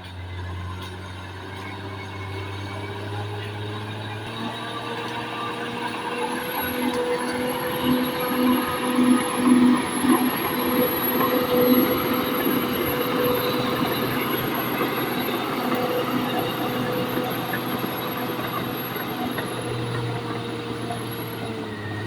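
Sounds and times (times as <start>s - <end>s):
bulldozer engine drone: 0.0s - 22.0s
steel tracks squealing and clatter: 0.0s - 22.0s.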